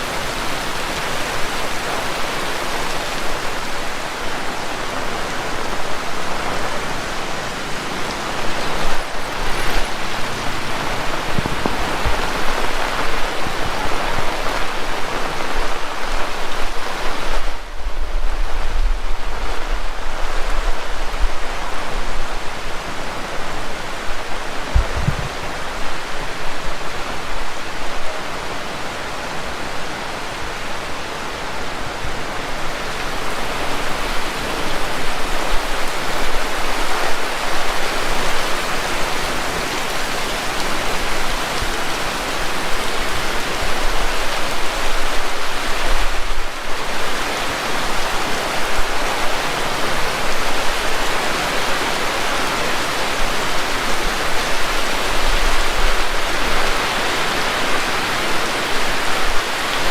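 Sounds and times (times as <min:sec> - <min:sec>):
heavy rain hissing: 0:00.0 - 0:59.9
wind rumbling: 0:00.0 - 0:59.9.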